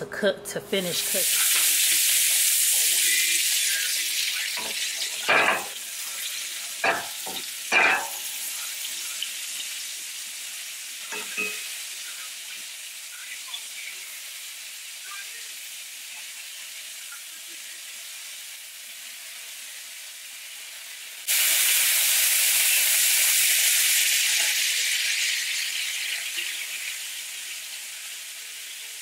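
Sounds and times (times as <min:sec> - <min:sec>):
steak sizzling in a skillet: 0:00.8 - 0:29.0.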